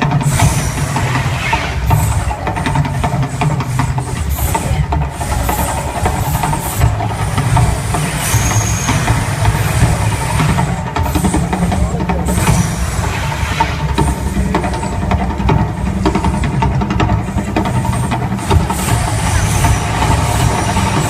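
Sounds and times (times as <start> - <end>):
loud low rumble with crackling: 0.0 - 21.0.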